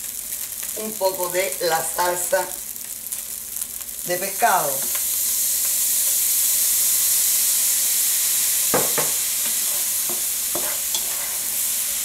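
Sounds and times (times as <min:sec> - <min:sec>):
rice sizzling in pot: 0:00.0 - 0:12.0.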